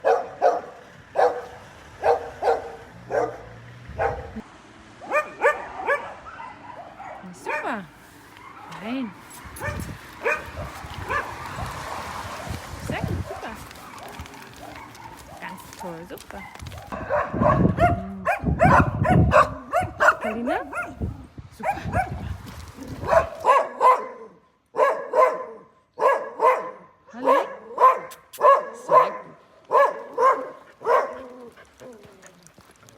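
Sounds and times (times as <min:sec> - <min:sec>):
dog barking: 0:00.0 - 0:04.4, 0:05.0 - 0:09.0, 0:09.6 - 0:11.8, 0:13.2 - 0:22.3, 0:23.0 - 0:31.5
dog yelping: 0:00.0 - 0:04.4, 0:05.1 - 0:07.8, 0:09.6 - 0:11.7, 0:13.3 - 0:22.2, 0:23.0 - 0:32.2.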